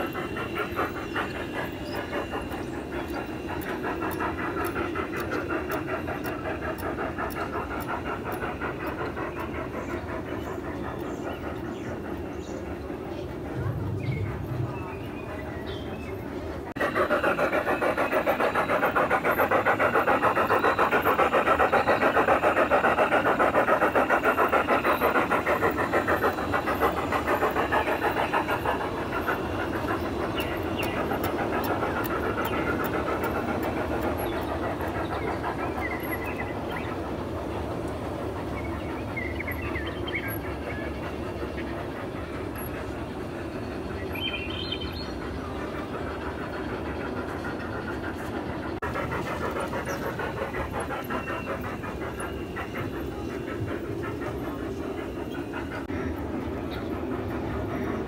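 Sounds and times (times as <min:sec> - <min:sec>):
model steam locomotive chuffing: 0:00.0 - 0:58.0.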